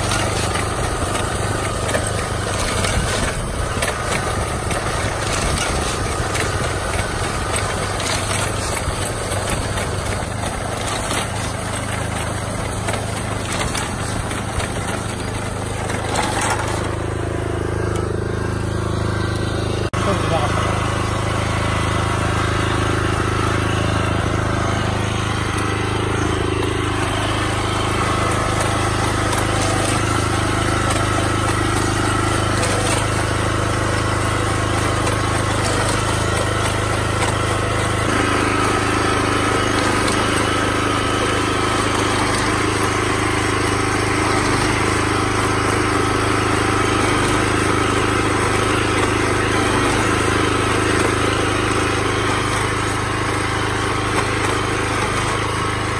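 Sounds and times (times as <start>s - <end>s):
small petrol engine running: 0.0s - 55.9s.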